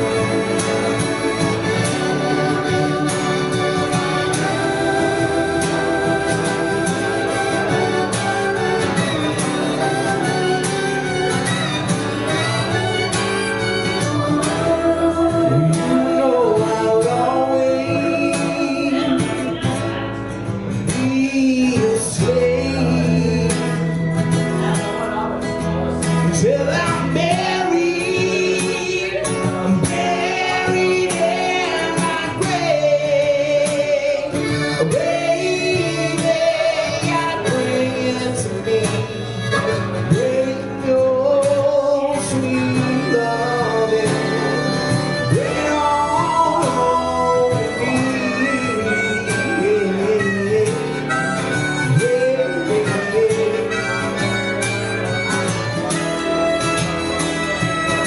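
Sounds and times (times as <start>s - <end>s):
acoustic guitar strumming: 0.0s - 58.0s
harmonica bending notes: 0.0s - 58.0s.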